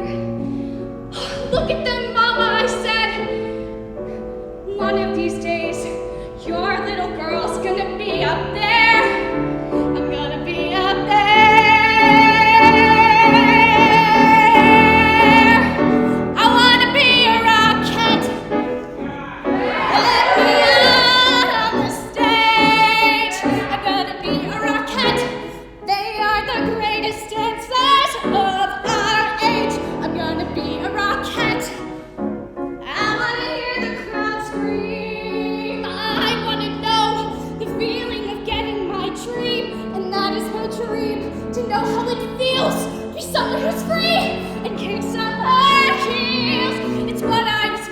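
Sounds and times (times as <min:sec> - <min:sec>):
musical accompaniment: 0:00.0 - 0:47.9
woman singing with vibrato: 0:04.7 - 0:18.6, 0:19.7 - 0:31.8, 0:32.8 - 0:47.9.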